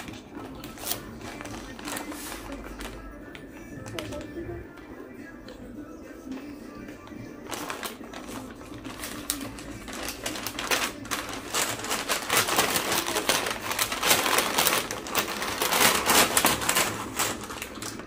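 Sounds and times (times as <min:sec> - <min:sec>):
paper bag rustling and crinkling: 0:00.0 - 0:05.2, 0:06.2 - 0:18.0.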